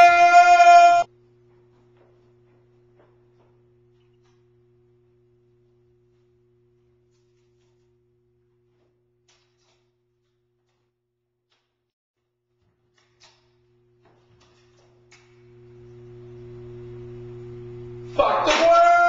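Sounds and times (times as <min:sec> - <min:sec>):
faint steady hum: 0:00.0 - 0:10.8, 0:12.5 - 0:19.0.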